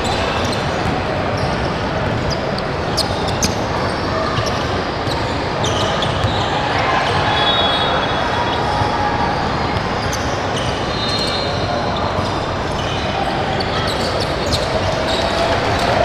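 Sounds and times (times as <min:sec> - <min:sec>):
echoing crowd chatter: 0:00.0 - 0:16.0.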